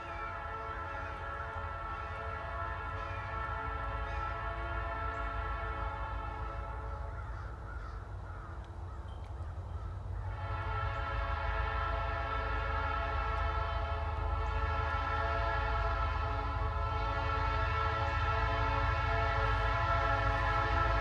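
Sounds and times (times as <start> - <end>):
locomotive air horn blasts: 0.0 - 7.3, 10.2 - 21.0
steady low train rumble: 0.0 - 21.0.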